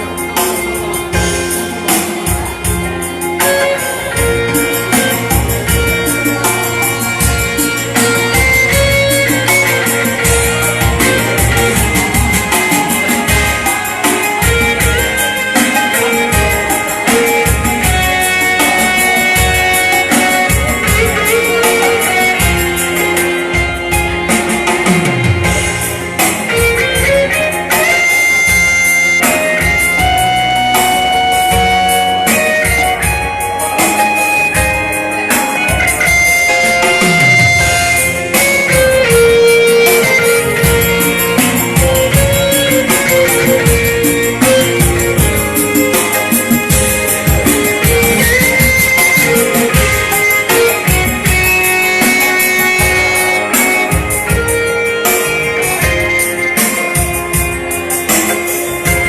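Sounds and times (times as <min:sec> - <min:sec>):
drum and bass accompaniment: 0:00.0 - 0:59.0
keyboard melody: 0:00.0 - 0:59.0
percussion rhythm: 0:00.0 - 0:59.0.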